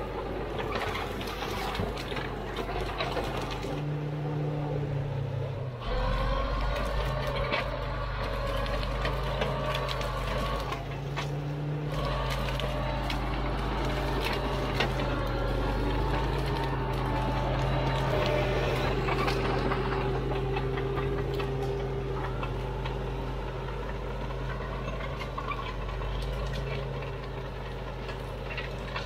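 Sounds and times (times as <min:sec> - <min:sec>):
bulldozer diesel engine: 0:00.0 - 0:29.0.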